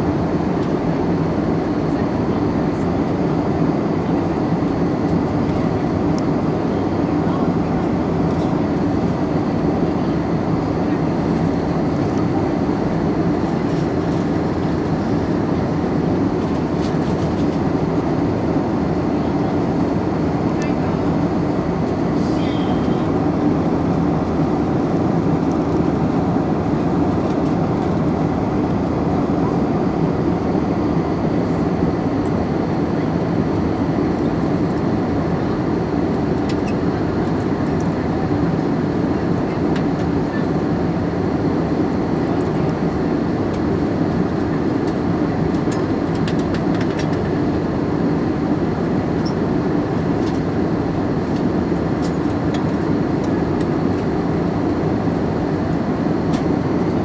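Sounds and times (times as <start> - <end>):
airplane cabin engine rush: 0.0 - 57.0.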